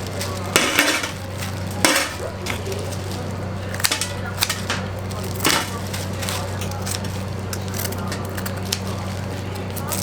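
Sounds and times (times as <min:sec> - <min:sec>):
low machine hum: 0:00.0 - 0:10.0
utensils scraping and knocking: 0:00.0 - 0:10.0.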